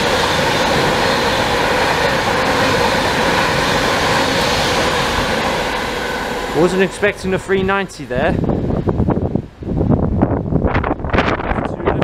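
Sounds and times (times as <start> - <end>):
electric train passing at speed: 0.0 - 12.0.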